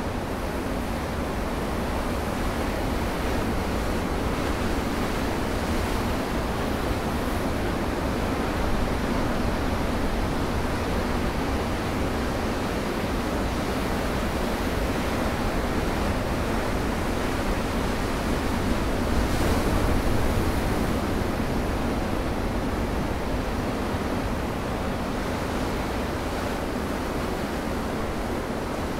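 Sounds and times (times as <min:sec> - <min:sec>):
ocean surf on rocky shore: 0:00.0 - 0:28.9.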